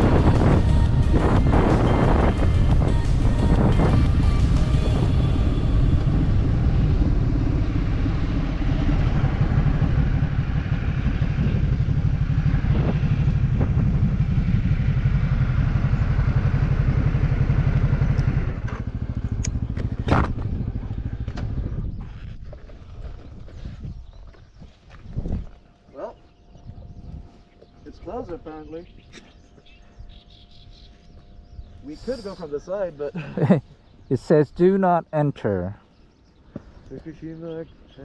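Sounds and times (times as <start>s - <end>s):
motorcycle engine running: 0.0s - 33.3s.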